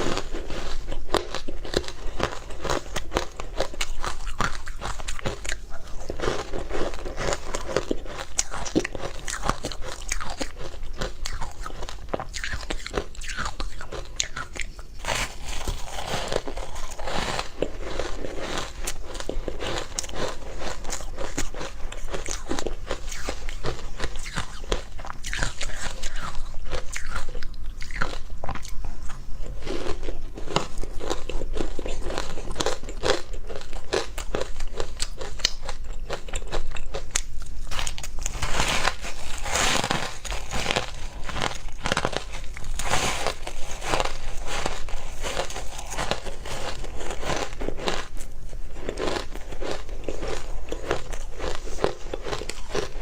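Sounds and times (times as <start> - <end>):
crunching and chewing ice: 0.0 - 53.0.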